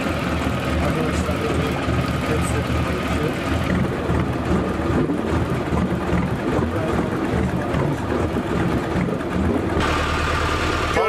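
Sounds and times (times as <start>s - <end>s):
boat engine running: 0.0s - 11.0s
wind and water rumble: 0.0s - 11.0s.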